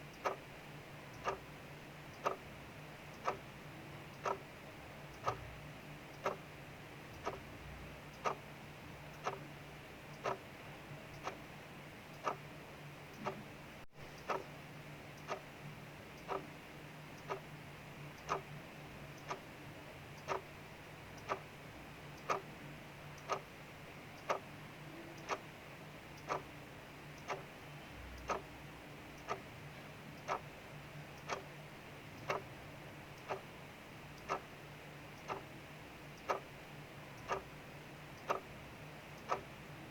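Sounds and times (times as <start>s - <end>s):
mechanical clock ticking: 0.0s - 13.5s, 14.1s - 39.8s.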